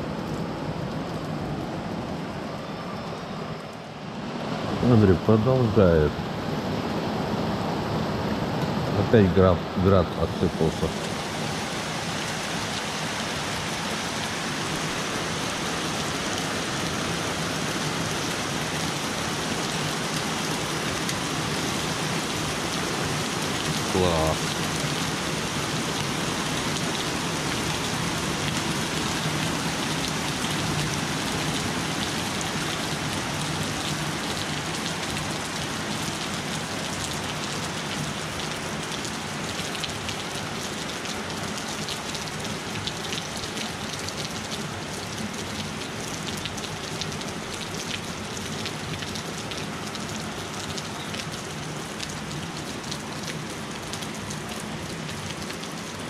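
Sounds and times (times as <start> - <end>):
heavy rain through trees: 0.0 - 56.0.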